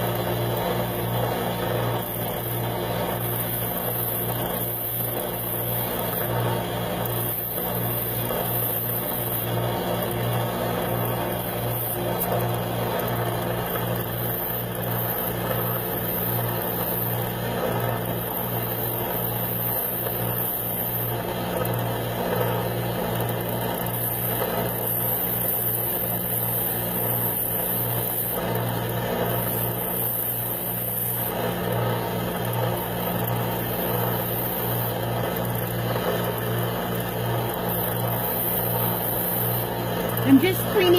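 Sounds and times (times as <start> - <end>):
belt sander motor hum: 0.0 - 22.5, 23.1 - 40.9.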